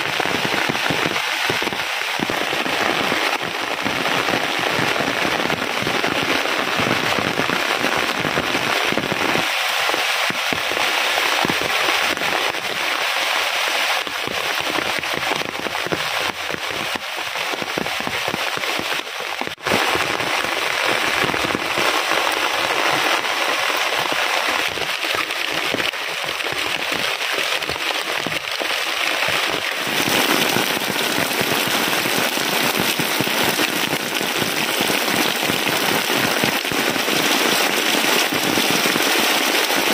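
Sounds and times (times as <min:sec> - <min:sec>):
heavy rain on plastic and leaves: 0:00.0 - 0:39.9.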